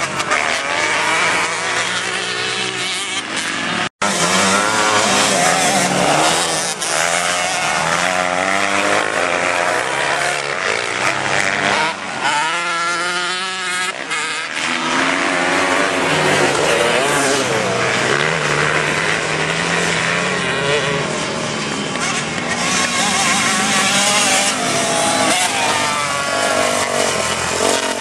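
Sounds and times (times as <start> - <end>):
racing motorcycle engines: 0.0 - 28.0.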